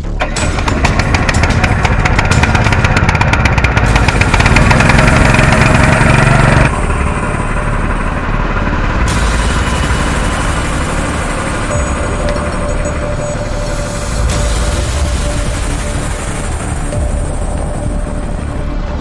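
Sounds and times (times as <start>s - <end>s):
low engine hum: 0.0s - 19.0s
small petrol engine running: 0.2s - 18.6s.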